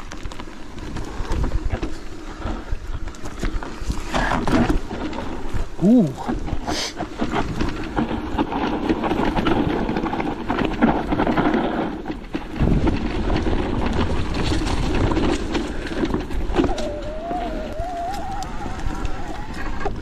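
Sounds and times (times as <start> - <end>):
bike frame rattling: 0.0 - 20.0
tyres crunching over stones: 0.0 - 20.0.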